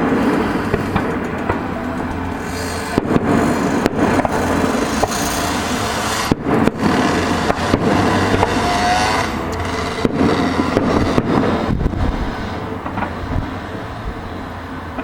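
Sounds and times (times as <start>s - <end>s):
continuous rumble: 0.0s - 15.0s
firework whistling: 0.0s - 15.0s
fireworks bangs and cracks: 0.0s - 15.0s.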